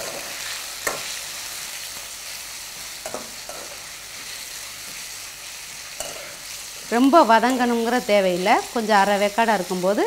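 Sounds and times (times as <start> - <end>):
masala sizzling in oil: 0.0 - 10.0.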